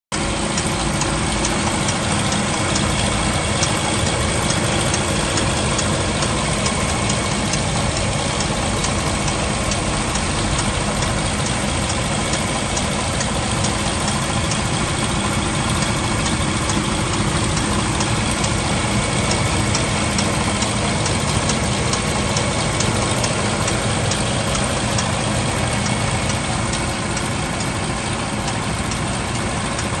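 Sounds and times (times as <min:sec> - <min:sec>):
diesel engine idling: 0:00.1 - 0:30.0
light ticking: 0:00.2 - 0:30.0.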